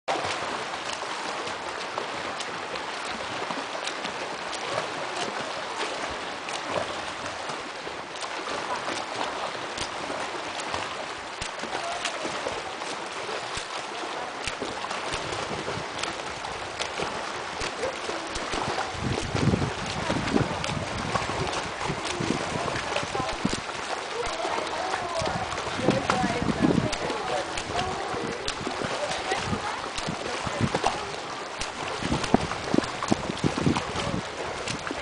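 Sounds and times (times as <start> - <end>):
swimmer splashing water: 0.1 - 35.0.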